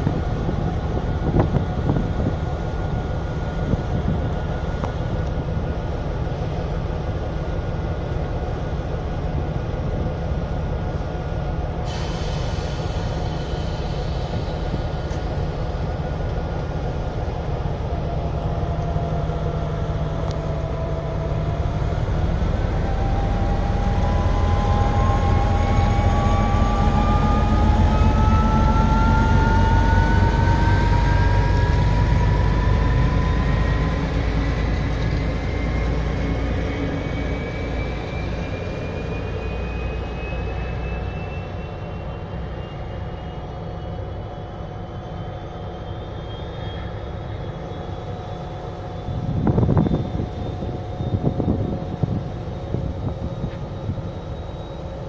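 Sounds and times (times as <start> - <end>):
diesel locomotive droning: 0.0 - 55.0
rising whine: 0.0 - 55.0.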